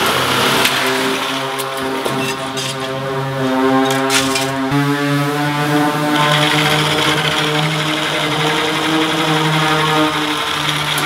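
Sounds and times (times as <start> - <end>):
metal cutter motor whine: 0.0 - 11.0
rough cutting of metal sheet: 0.4 - 11.0.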